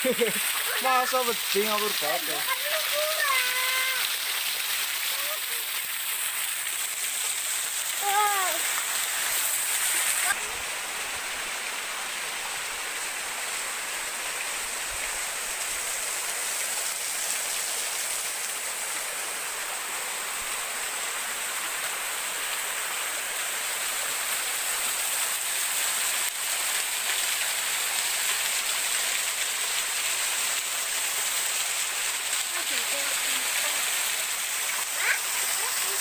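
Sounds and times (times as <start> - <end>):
river and waterfall rushing: 0.0 - 36.0.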